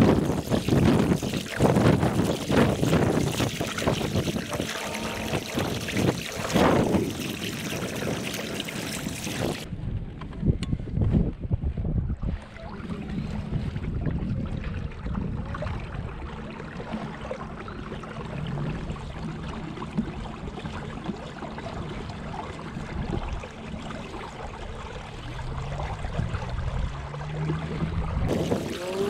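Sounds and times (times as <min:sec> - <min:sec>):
water lapping along kayak hull: 0:00.0 - 0:09.7, 0:11.7 - 0:29.0
wind buffeting microphone: 0:00.0 - 0:17.0, 0:18.2 - 0:29.0.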